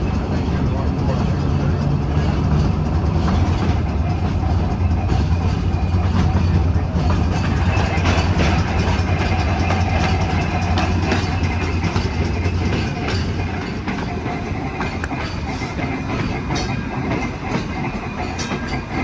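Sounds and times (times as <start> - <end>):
streetcar rolling along track: 0.0 - 19.0
wheels clicking over rail joints: 0.0 - 19.0.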